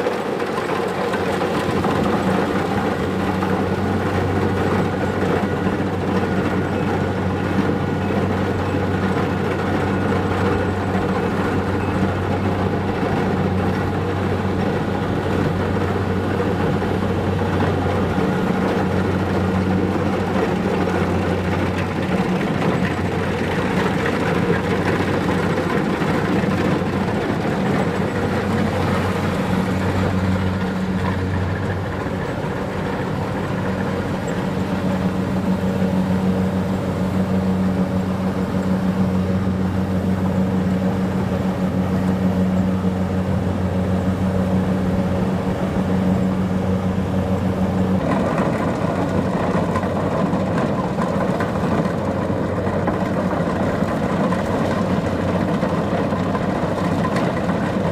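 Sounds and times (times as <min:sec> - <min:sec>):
combine harvester diesel engine: 0:00.0 - 0:57.9.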